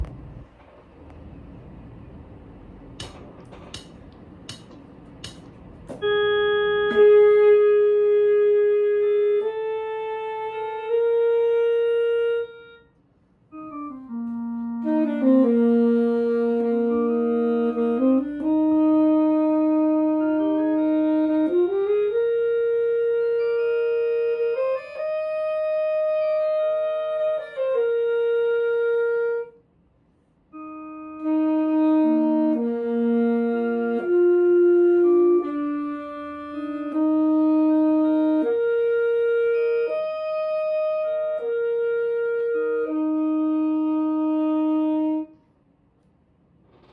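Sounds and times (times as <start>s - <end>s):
alto saxophone holding long notes: 6.0s - 29.6s, 30.5s - 45.4s.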